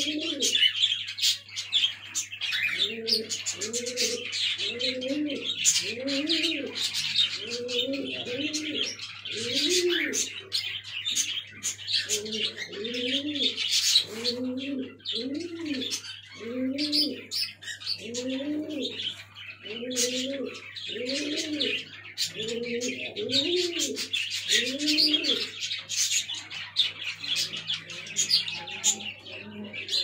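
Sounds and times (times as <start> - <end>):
high bird chirping: 0.0 - 30.0
pigeon cooing: 0.0 - 30.0.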